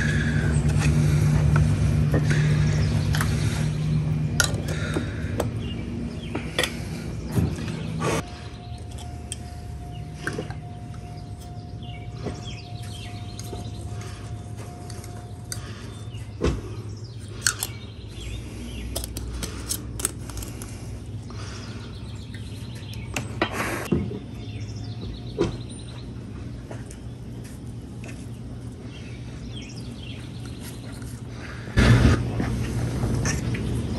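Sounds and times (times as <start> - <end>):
birds chirping: 0.0 - 33.9
steady low hum: 0.0 - 33.9.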